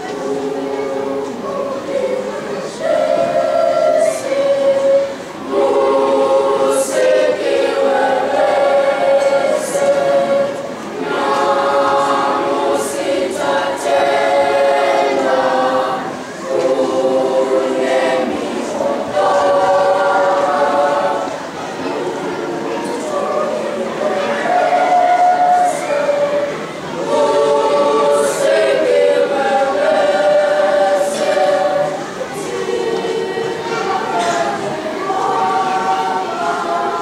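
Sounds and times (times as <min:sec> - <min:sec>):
children's choir singing: 0:00.0 - 0:37.0.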